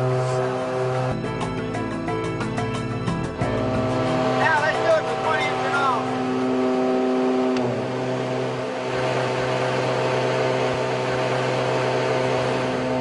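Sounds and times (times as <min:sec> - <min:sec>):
aircraft engines droning: 0:00.0 - 0:13.0.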